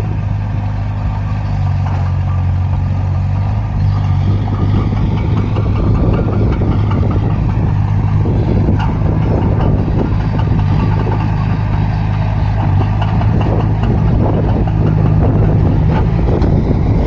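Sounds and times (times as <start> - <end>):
heavy vehicle engine idling: 0.0 - 17.0
rattle and clatter: 0.0 - 17.0.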